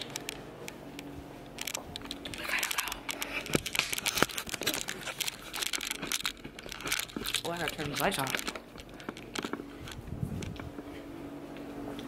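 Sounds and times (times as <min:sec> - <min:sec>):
crackling handling noises: 0:00.0 - 0:12.0.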